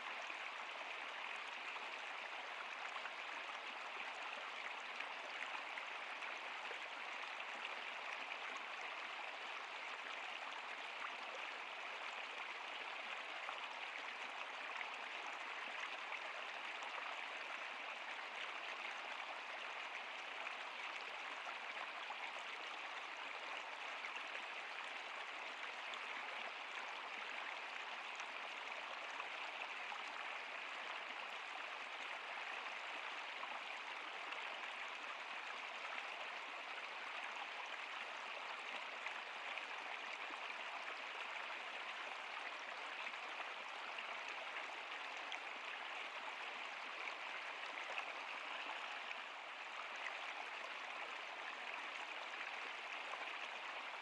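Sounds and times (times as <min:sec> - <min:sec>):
stream water running: 0:00.0 - 0:54.0.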